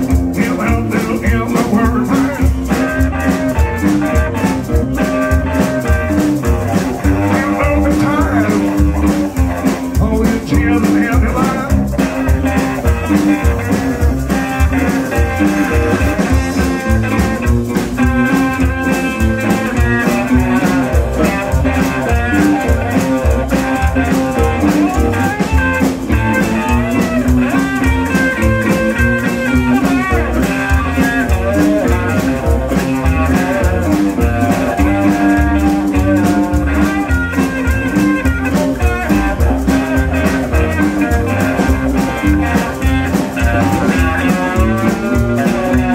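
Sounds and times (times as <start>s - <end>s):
electric guitars: 0.0s - 45.9s
steady drum beat: 0.0s - 45.9s
upright bass: 0.0s - 45.9s.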